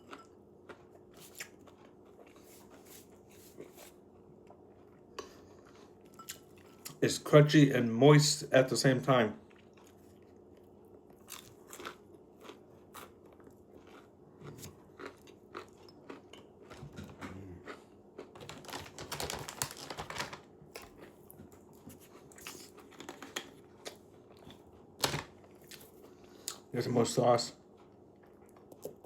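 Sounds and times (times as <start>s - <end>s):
crunchy food being chewed: 0.0s - 7.0s, 9.4s - 26.7s, 27.5s - 29.0s.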